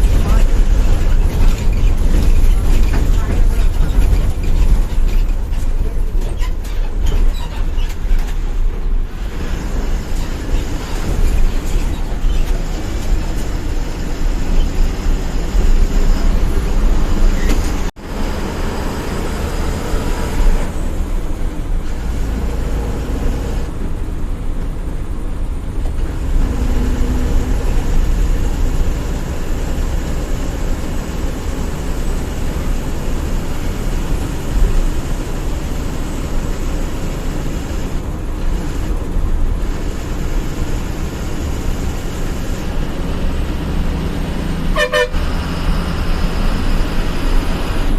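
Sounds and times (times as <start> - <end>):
bus engine and road noise: 0.0 - 47.9.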